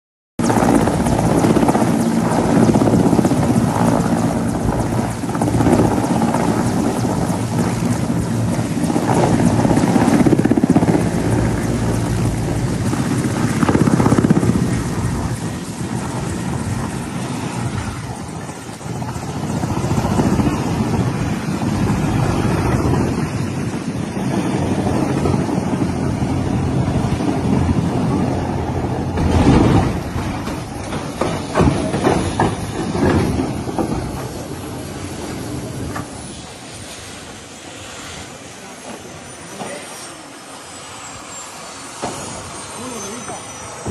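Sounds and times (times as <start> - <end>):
helicopter engines and rotor: 0.4 - 43.9.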